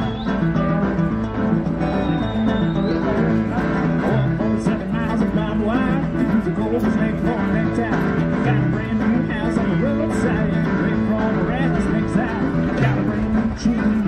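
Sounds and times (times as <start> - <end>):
background guitar music: 0.0 - 14.0.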